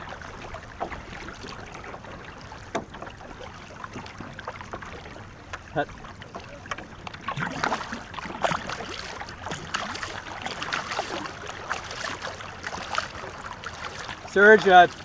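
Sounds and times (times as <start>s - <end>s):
paddles knocking: 0.0s - 15.0s
paddles splashing in water: 0.0s - 15.0s.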